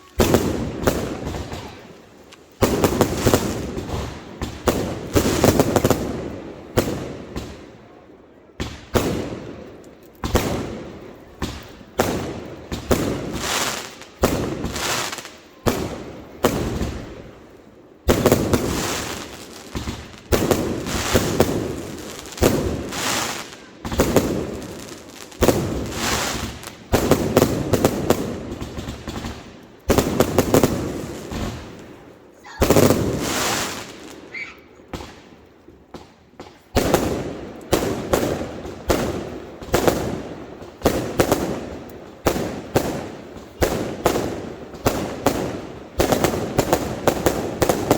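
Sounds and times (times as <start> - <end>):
fireworks exploding: 0.0 - 47.9.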